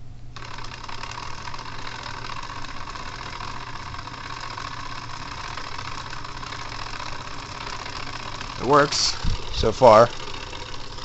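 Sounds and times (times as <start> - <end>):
small electric motor whirring: 0.4 - 11.0.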